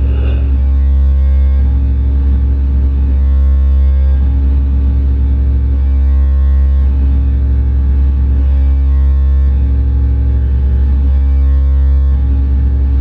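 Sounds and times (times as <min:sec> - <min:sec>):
electronic noise music drone: 0:00.0 - 0:13.0.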